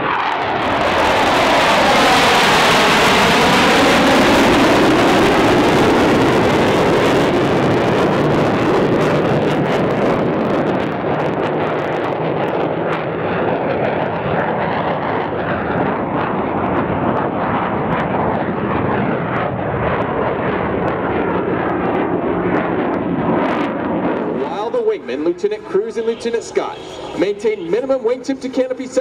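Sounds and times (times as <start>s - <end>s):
dull jet rumble: 0.0s - 29.0s
jet engines in afterburner: 0.0s - 29.0s.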